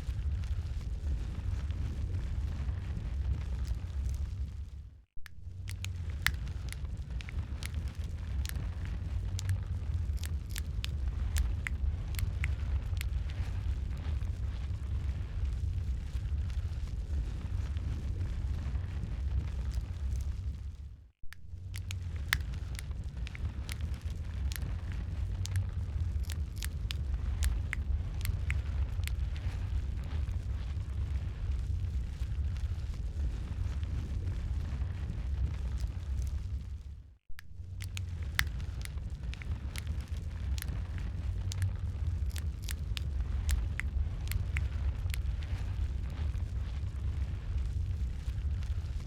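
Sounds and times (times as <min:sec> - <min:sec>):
low rumble of flames: 0:00.0 - 0:49.0
sharp pops and snaps of fire: 0:00.0 - 0:49.0
wood fire crackling: 0:00.0 - 0:49.0.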